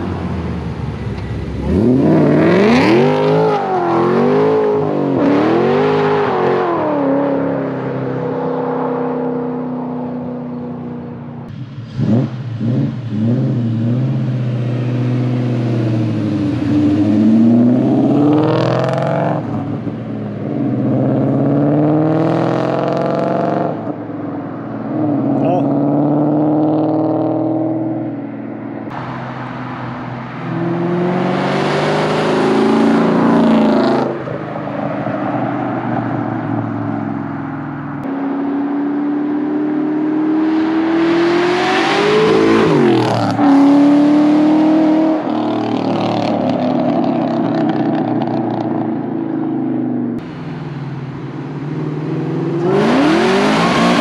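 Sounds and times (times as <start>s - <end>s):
cars with loud exhausts accelerating: 0.0s - 54.0s.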